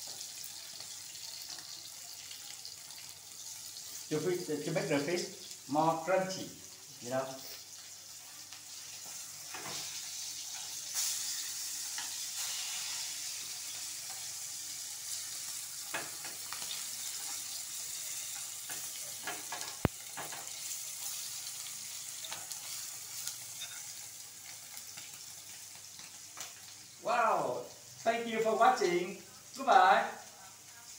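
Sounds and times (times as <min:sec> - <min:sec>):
fish frying in oil: 0:00.0 - 0:30.9.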